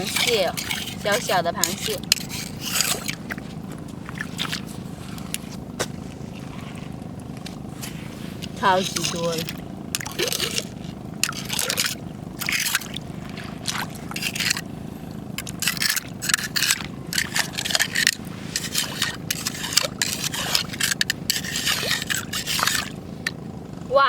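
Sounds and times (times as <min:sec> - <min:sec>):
stones and shells scraping: 0:00.0 - 0:23.4.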